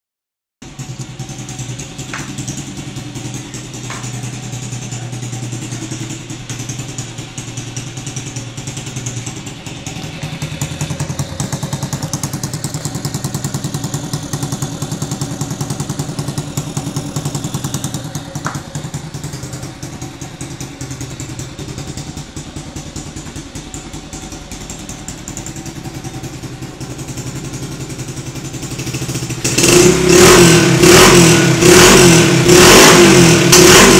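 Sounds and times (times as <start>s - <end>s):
motorcycle engine idling and revving: 0.6s - 33.9s.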